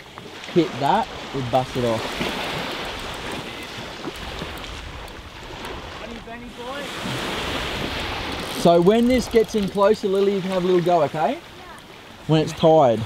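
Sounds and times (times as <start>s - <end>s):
waves on shore: 0.0s - 13.0s.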